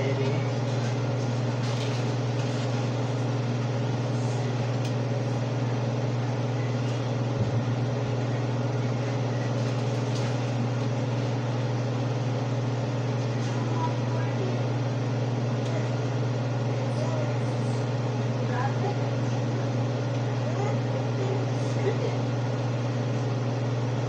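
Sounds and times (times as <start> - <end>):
vent fan humming: 0.0 - 24.0.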